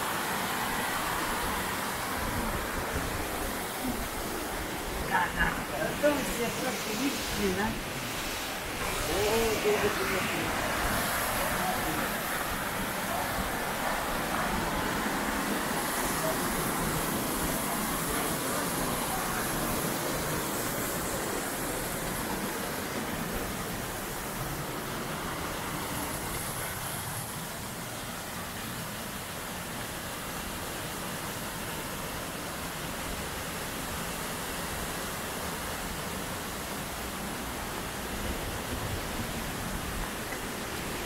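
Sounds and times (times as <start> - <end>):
water cascading over rocks: 0.0 - 41.0.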